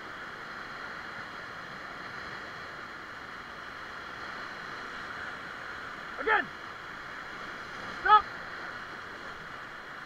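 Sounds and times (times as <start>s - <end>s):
whitewater rapids rushing: 1.0s - 10.0s.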